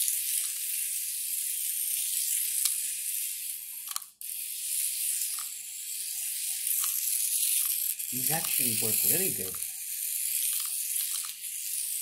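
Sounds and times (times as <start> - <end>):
small motor and gears whirring: 0.0 - 12.0.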